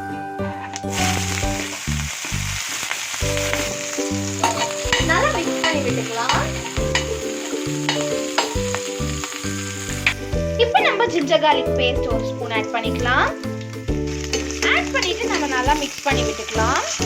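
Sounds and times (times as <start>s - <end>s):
background music: 0.0s - 2.6s, 3.2s - 17.0s
chillies sizzling in hot oil: 0.4s - 17.0s.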